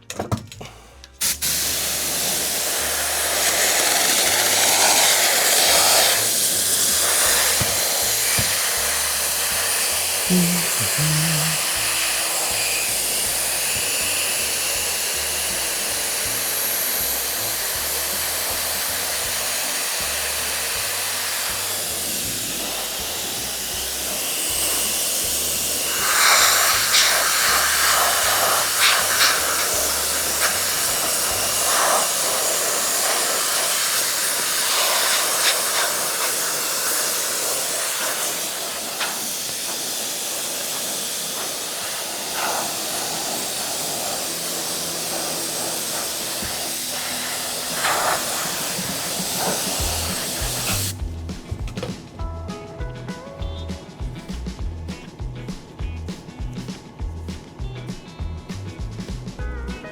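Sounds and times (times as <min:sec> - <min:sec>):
spray gun hissing: 0:01.2 - 0:51.0.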